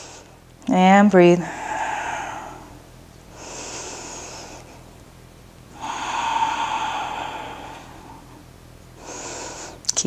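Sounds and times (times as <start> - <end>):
woman breathing: 0.0 - 0.4, 1.4 - 4.9, 5.7 - 9.9.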